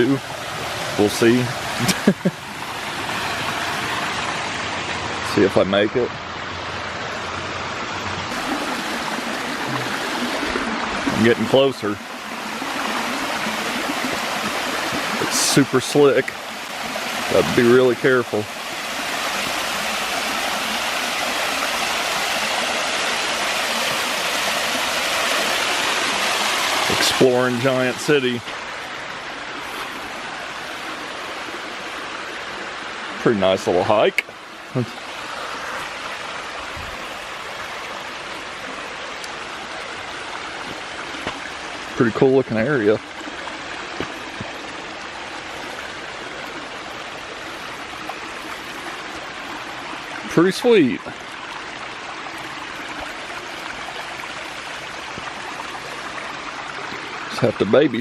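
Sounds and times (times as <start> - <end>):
waterfall rushing: 0.0 - 5.5, 6.2 - 58.0.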